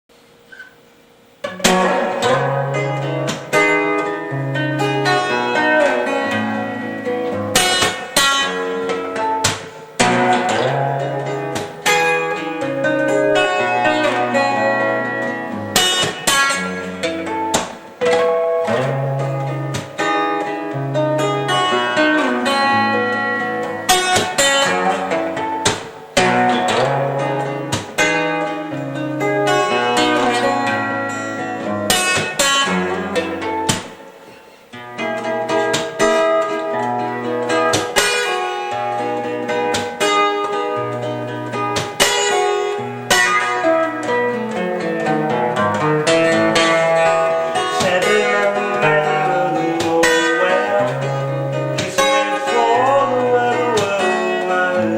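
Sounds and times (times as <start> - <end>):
solo guitar melody: 0.2 - 54.9.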